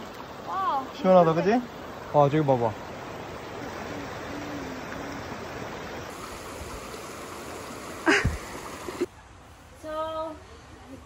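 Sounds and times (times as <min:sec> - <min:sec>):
creek water rushing over rocks: 0:00.0 - 0:09.1.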